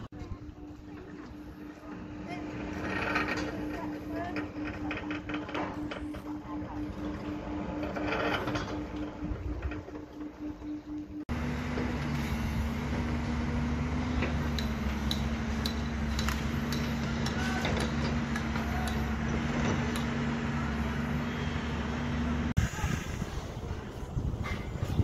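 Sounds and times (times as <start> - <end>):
engine humming: 0.0 - 25.0
outdoor background noise: 0.0 - 25.0.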